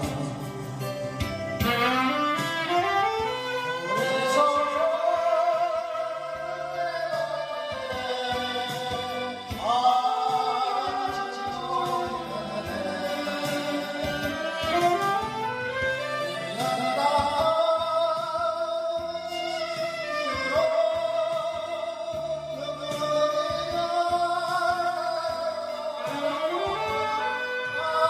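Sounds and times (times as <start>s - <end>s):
instrumental accompaniment: 0.0s - 28.0s
person singing: 0.0s - 28.0s.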